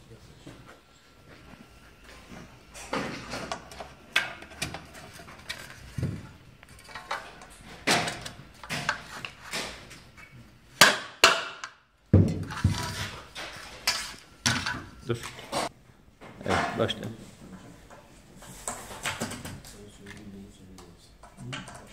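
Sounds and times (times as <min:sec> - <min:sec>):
knocks and clacks of parts fitted: 0:00.4 - 0:17.1, 0:17.9 - 0:21.9.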